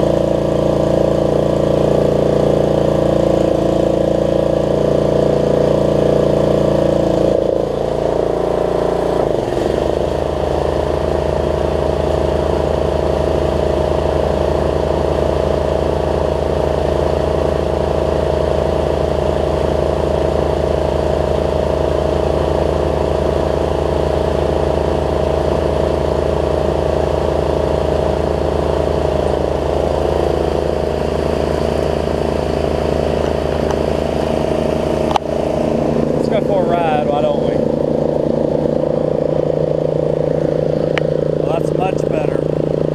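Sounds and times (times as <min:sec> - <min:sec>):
riding mower engine running: 0:00.0 - 0:42.9.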